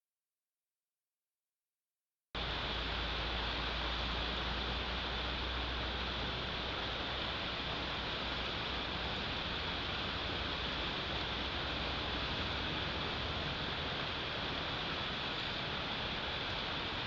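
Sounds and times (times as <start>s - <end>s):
wind and snowstorm hiss: 2.4s - 17.0s.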